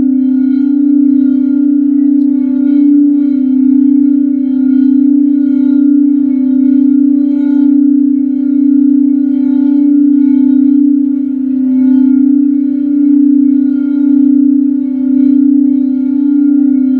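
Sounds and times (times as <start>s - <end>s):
singing bowl humming: 0.0s - 16.9s.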